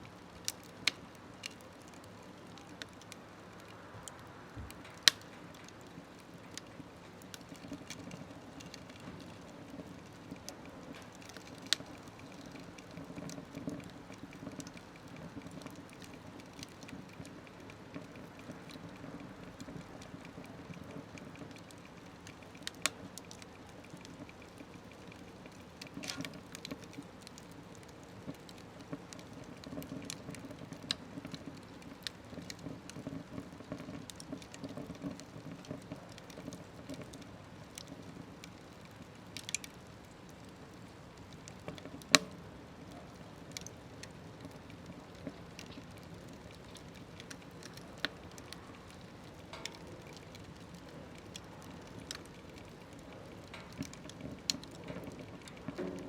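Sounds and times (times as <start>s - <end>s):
burning wood crackling and popping: 0.0s - 56.0s.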